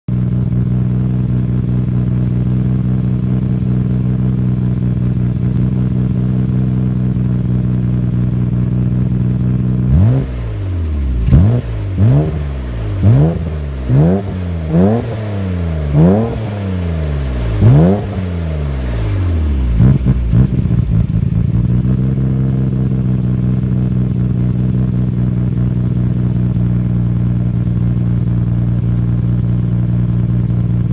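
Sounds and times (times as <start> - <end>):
car engine idling and revving: 0.1 - 30.9
engine ticking: 0.1 - 30.9
exhaust crackle: 0.1 - 30.9.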